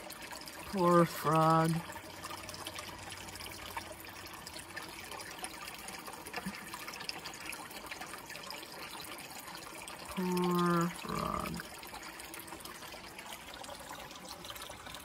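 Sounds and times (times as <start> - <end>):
water trickling over rock: 0.0 - 15.0.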